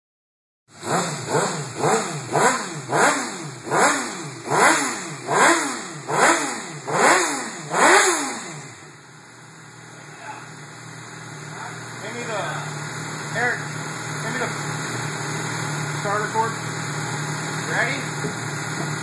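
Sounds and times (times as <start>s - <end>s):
motorcycle engine revving: 0.7s - 19.0s.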